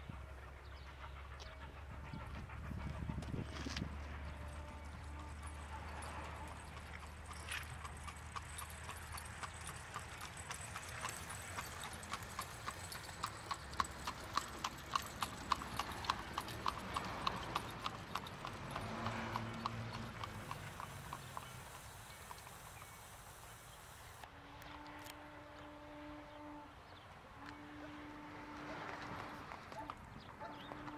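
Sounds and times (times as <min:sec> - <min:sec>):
horse hooves trotting on pavement: 0:01.4 - 0:24.3, 0:28.6 - 0:30.9.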